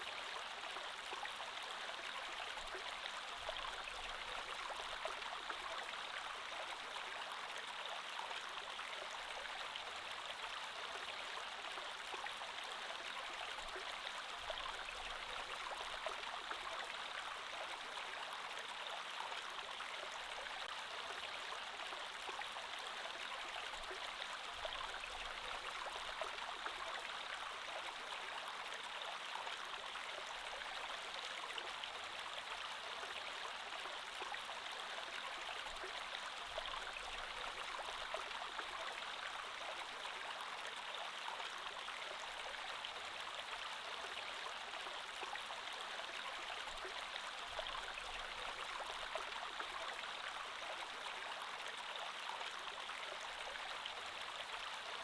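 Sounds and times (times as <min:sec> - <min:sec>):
creek water flowing: 0:00.0 - 0:55.0.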